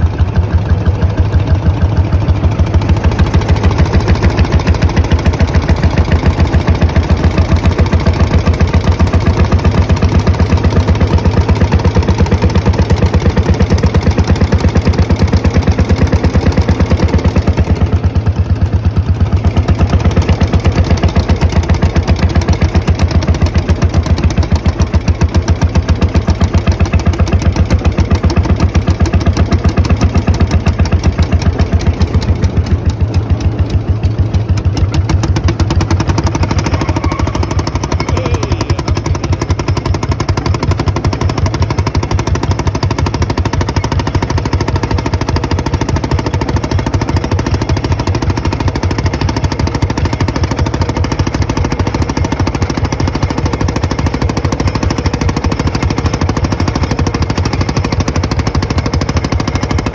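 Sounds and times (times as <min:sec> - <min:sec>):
tractor diesel engine thumping: 0:00.0 - 0:59.9.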